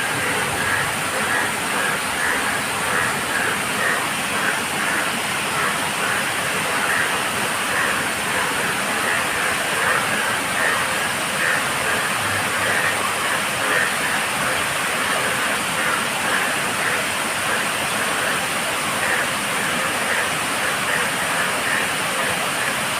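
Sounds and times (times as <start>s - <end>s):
frogs calling: 0.0s - 22.9s
heavy rain: 0.0s - 22.9s.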